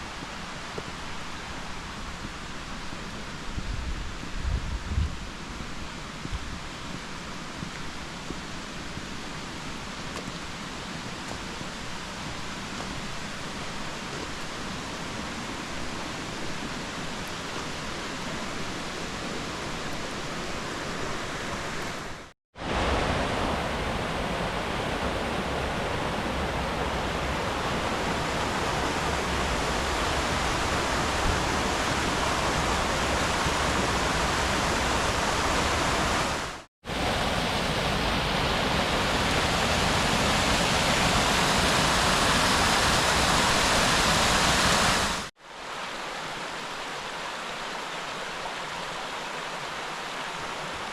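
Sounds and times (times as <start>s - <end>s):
water rushing in stream: 6.8s - 50.9s.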